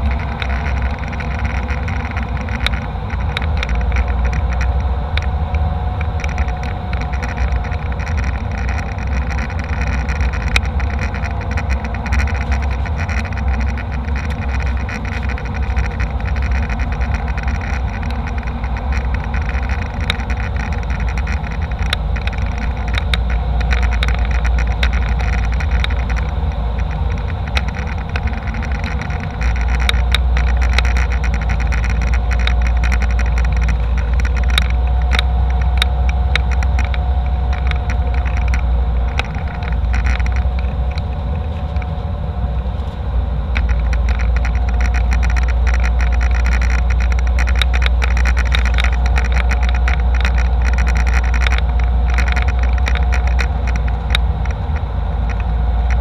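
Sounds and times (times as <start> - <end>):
jet engine and airflow drone: 0.0 - 56.0
small clicks and rattles: 0.0 - 56.0.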